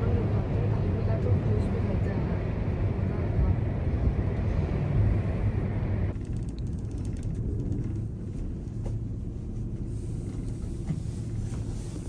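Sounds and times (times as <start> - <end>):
cable car cabin rumble: 0.0 - 12.0.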